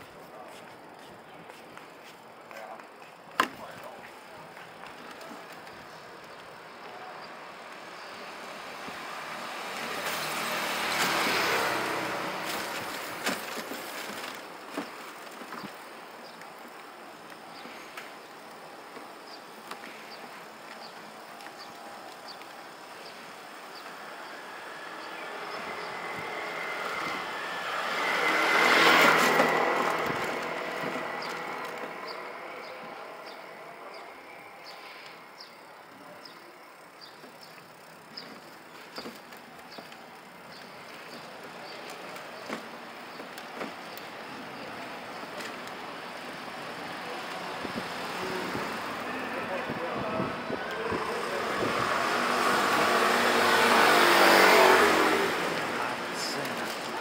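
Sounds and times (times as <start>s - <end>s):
low street hum: 0.0s - 57.0s
motor vehicles passing: 3.6s - 57.0s.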